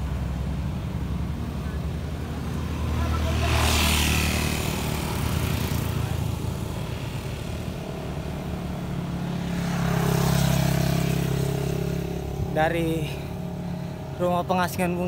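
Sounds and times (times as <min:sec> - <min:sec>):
small truck engine: 0:00.0 - 0:14.9
motorcycles passing: 0:00.0 - 0:15.0
rush of passing vehicles: 0:00.0 - 0:15.0
steady engine drone: 0:00.0 - 0:15.0.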